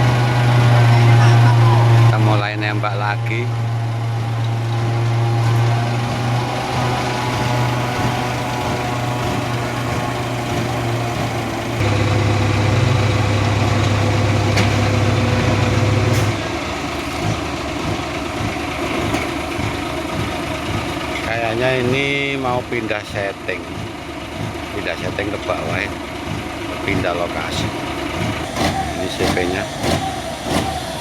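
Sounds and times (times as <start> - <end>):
concrete pump engine running: 0.0 - 31.0.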